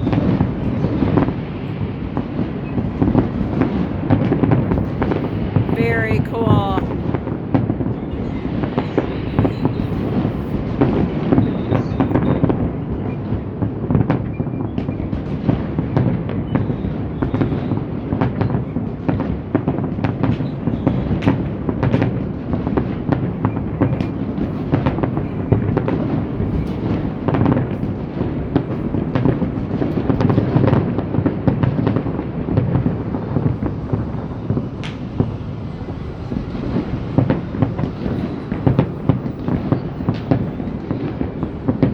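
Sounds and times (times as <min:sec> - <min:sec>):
distant fireworks booming: 0:00.0 - 0:41.9.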